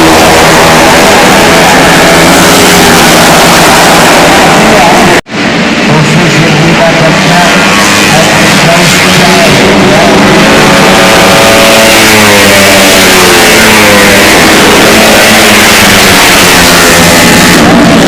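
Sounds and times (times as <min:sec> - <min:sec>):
scooter engine revving: 0:00.0 - 0:05.3, 0:07.6 - 0:18.0.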